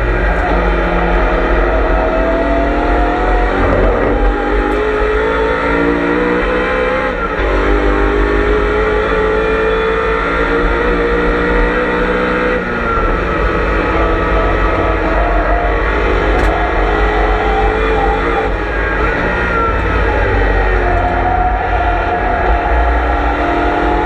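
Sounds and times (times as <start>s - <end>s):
car engine revving in cabin: 0.0s - 24.0s.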